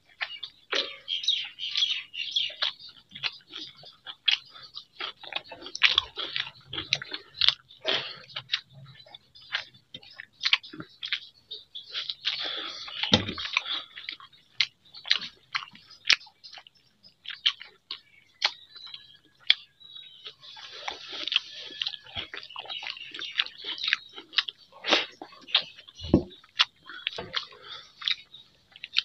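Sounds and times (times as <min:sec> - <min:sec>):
close chewing and mouth smacks: 0:00.0 - 0:29.0.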